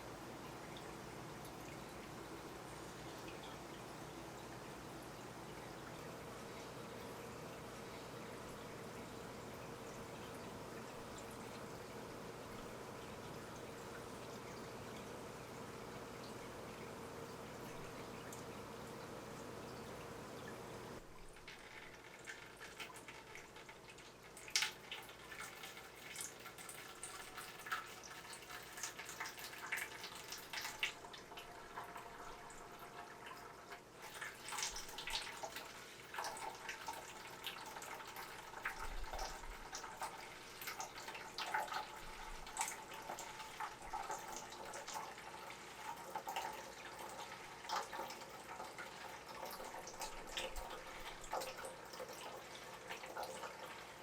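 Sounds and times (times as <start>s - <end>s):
aquarium water splashing: 0.0s - 54.0s.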